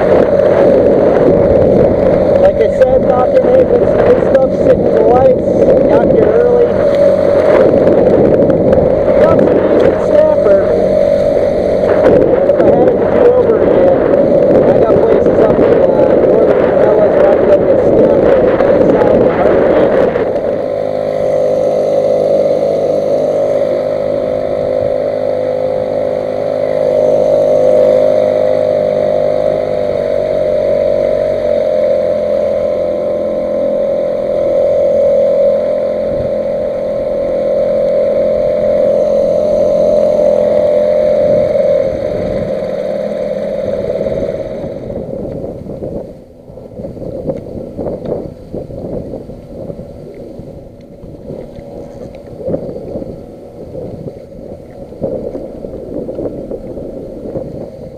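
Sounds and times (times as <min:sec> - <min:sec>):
boat motor humming: 0:00.0 - 0:57.9.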